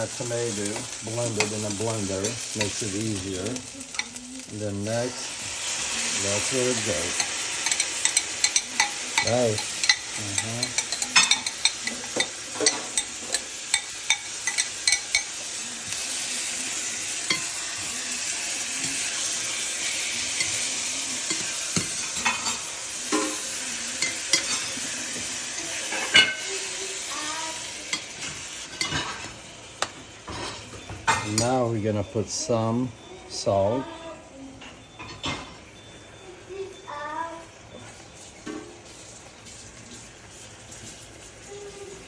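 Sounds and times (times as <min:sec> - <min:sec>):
vegetables sizzling in a pan: 0:00.0 - 0:42.0.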